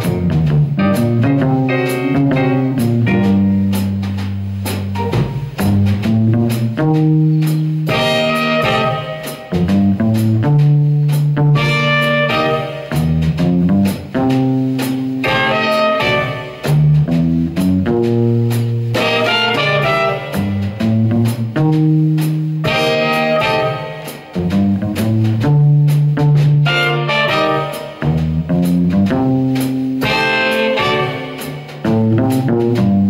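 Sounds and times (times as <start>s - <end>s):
drums and cymbal strokes: 0.0s - 33.0s
electric bass guitar notes: 0.0s - 33.0s
piano: 0.0s - 33.0s.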